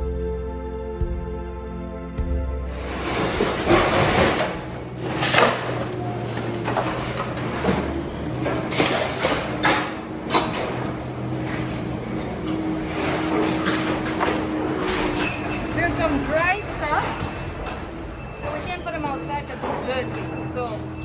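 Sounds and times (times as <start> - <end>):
knocks and scrapes: 2.7 - 21.0.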